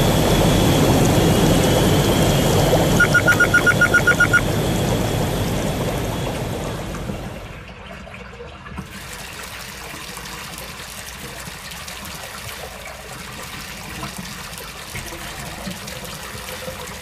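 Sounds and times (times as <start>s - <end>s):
water trickling and splashing: 0.4s - 17.0s.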